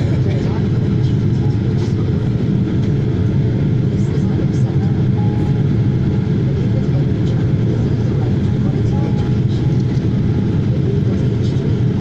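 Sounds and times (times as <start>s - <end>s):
jet engines and airflow roar: 0.0s - 12.0s.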